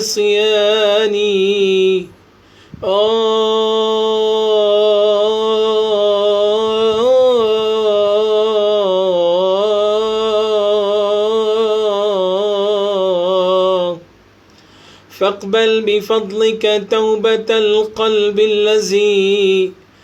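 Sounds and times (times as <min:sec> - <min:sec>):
man singing a long note: 0:00.0 - 0:02.2, 0:02.8 - 0:14.1, 0:15.1 - 0:19.8.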